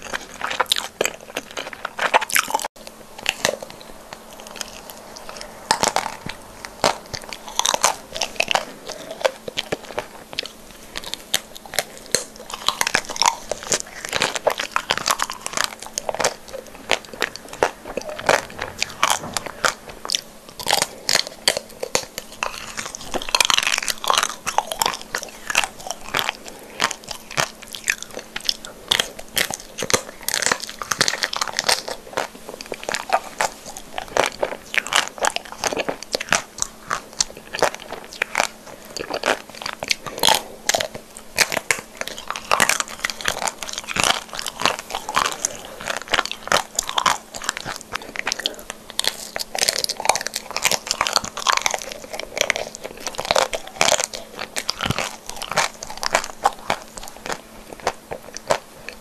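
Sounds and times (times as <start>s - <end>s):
crunching and chewing chocolate: 0.0s - 59.0s
faint steady hum: 0.0s - 59.0s.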